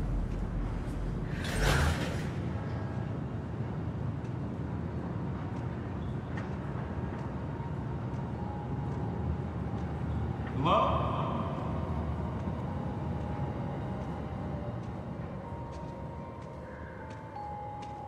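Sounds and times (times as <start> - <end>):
low dark ambient rumble: 0.0 - 18.0.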